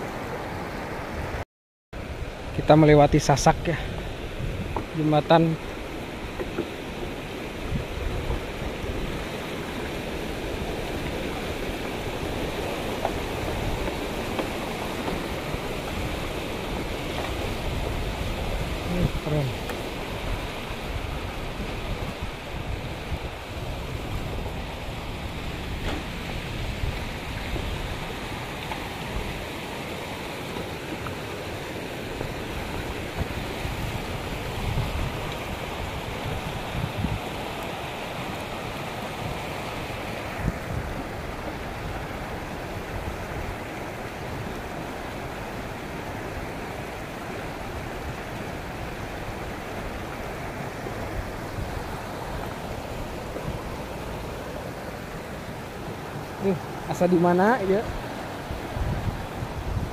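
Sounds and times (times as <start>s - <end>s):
river flowing over stones: 0.0s - 1.4s, 2.0s - 59.9s
wind rumble on microphone: 2.0s - 59.9s.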